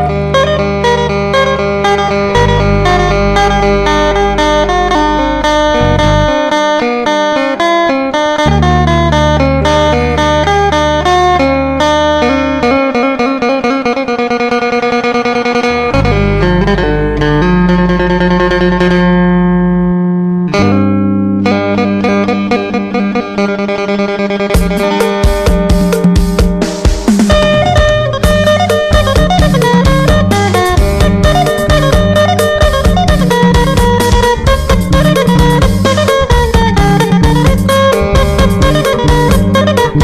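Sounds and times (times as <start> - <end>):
plucked lute playing: 0.0 - 40.0.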